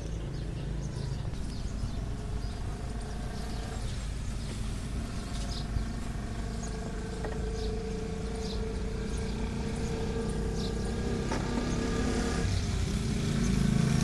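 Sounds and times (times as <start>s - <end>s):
vehicle engine hum: 0.0s - 14.0s.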